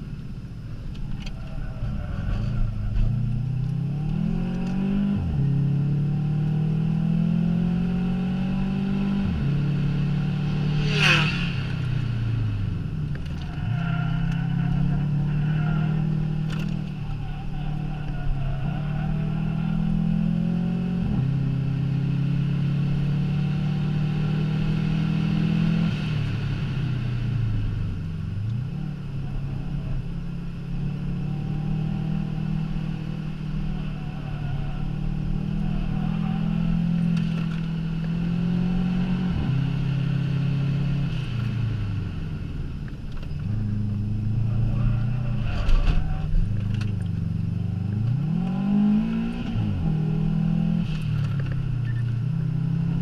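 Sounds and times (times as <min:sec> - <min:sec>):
car engine under hard load: 0:00.0 - 0:53.0.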